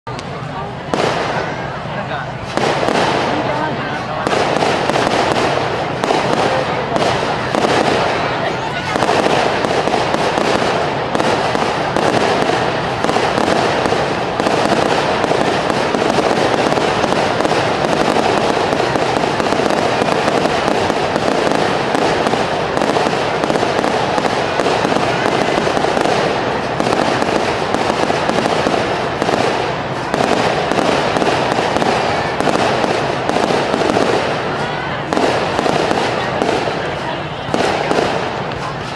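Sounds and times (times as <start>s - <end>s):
fireworks barrage: 0.1s - 38.9s.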